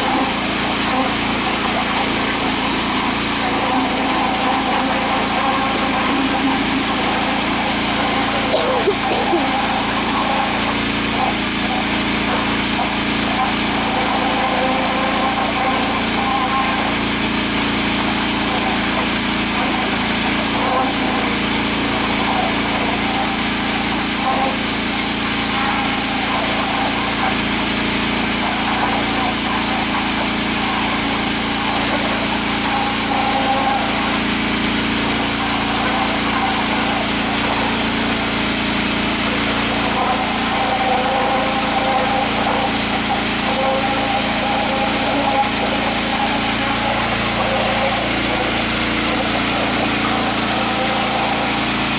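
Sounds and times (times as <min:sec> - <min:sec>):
small gasoline engine running: 0:00.0 - 0:51.9
water jetting into dirt: 0:00.0 - 0:51.9.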